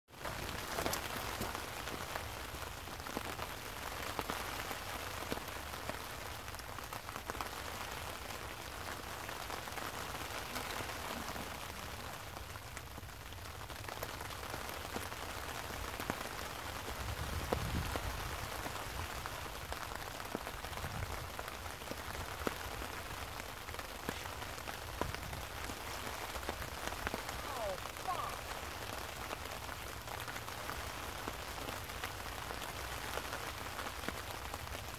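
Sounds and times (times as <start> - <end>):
raindrops ticking close by: 0.1 - 34.9
steady rain falling: 0.1 - 34.9.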